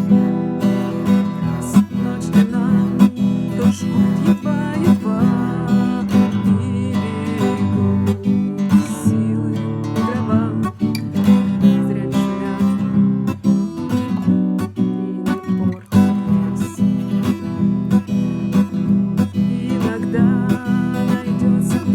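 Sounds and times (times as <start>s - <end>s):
acoustic guitar strumming: 0.0s - 21.9s.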